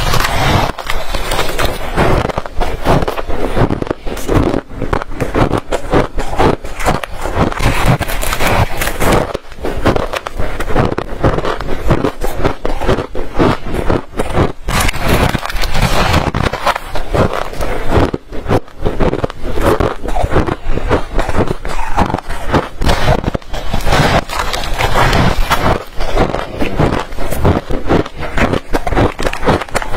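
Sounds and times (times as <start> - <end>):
frost being chewed crunching: 0.0 - 29.9.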